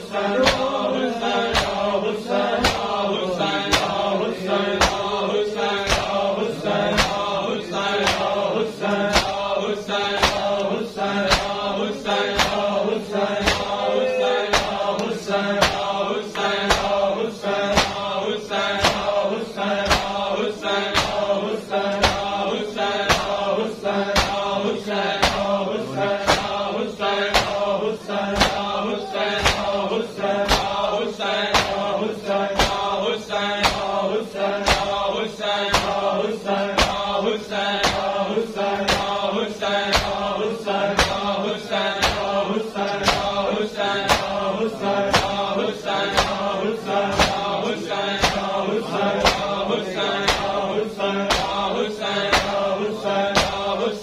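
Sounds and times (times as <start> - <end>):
men chanting: 0.0 - 54.0
palms slapping chests: 0.2 - 53.8.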